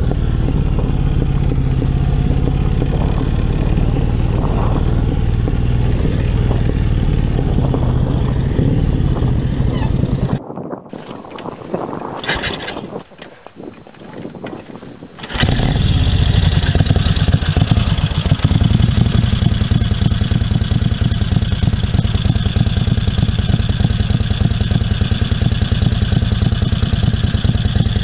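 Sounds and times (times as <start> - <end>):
motorcycle engine starting and running: 0.0 - 13.3, 14.0 - 28.0.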